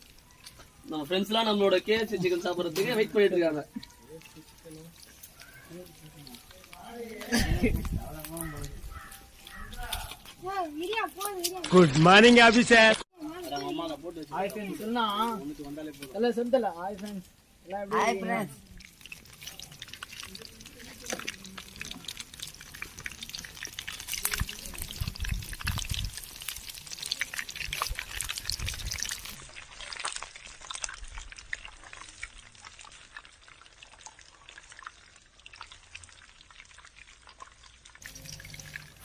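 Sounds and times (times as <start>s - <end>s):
food deep-frying in hot oil: 0.0s - 39.0s.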